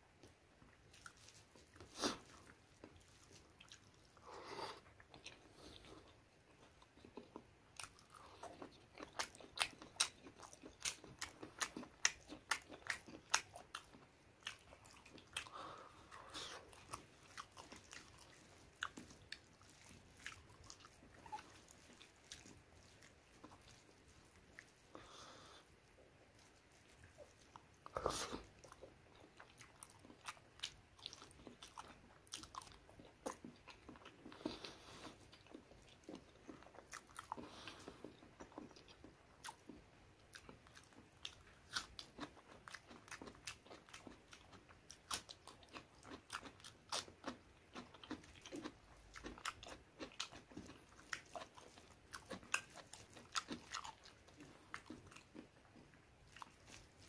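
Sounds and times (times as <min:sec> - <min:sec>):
person chewing food: 0:00.2 - 0:57.0.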